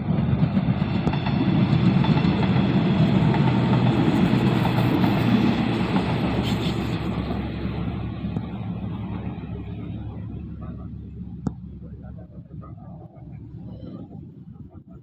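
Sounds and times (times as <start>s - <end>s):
train wheels on track: 0.0s - 12.3s
diesel train engines rumbling: 0.0s - 15.0s.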